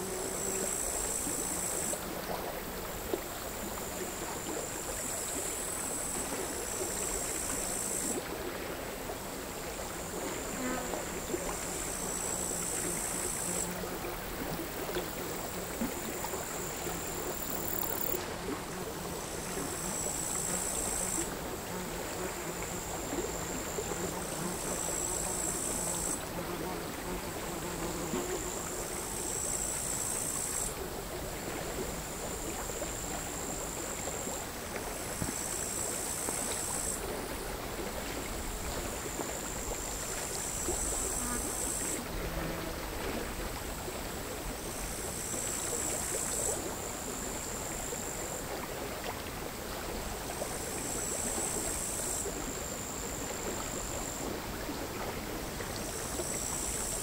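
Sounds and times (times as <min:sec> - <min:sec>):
crickets trilling: 0:00.0 - 0:02.0, 0:02.8 - 0:08.2, 0:09.7 - 0:37.5, 0:38.3 - 0:43.4, 0:44.5 - 0:48.4, 0:50.3 - 0:54.8, 0:55.5 - 0:57.0.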